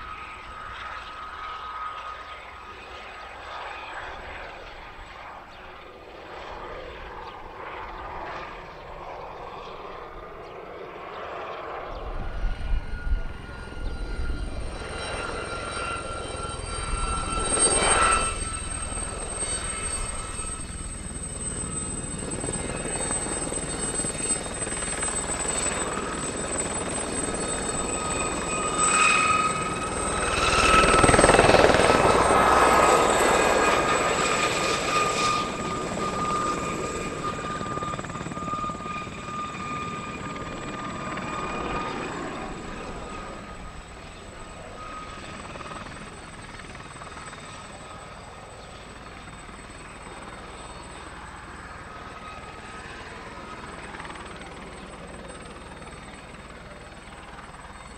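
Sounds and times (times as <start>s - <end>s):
helicopter rotors rushing: 0.0s - 57.9s
helicopter turbine whine: 0.0s - 57.9s.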